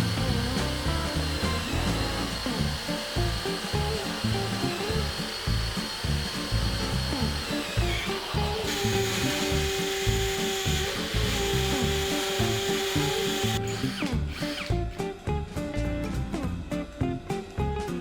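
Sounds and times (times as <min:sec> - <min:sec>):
cordless drill whining: 0:00.0 - 0:15.0
background music with a beat: 0:00.0 - 0:18.0.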